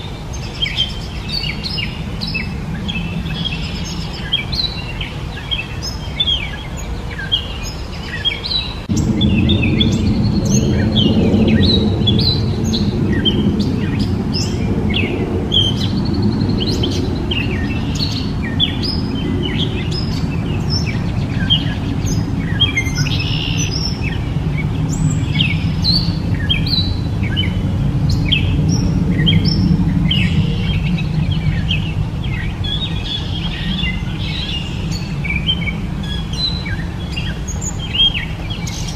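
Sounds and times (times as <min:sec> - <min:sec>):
catbird singing: 0:00.0 - 0:38.9
low background rumble: 0:00.0 - 0:38.9.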